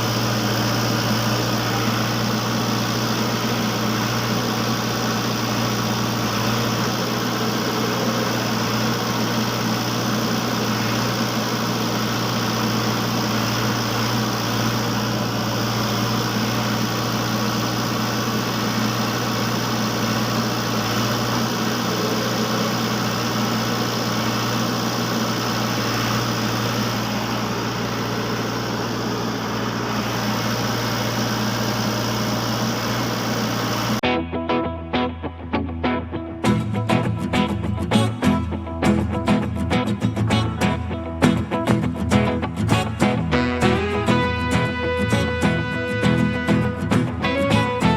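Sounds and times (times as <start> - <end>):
small motor running: 0.0 - 34.0, 39.3 - 47.9.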